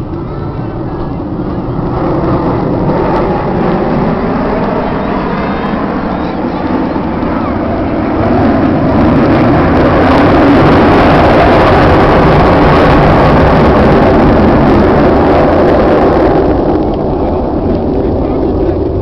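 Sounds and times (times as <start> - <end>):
fighter jets roaring past: 0.0 - 19.0.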